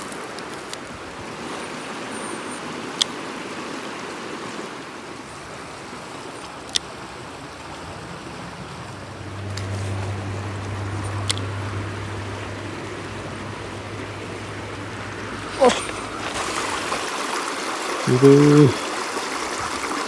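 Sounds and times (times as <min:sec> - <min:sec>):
stream running over rocks: 0:00.0 - 0:20.0.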